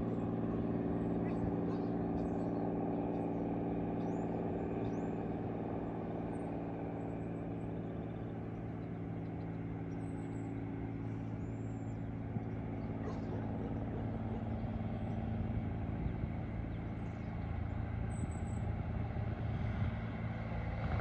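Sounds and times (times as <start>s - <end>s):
distant truck engine drone: 0.0s - 21.0s.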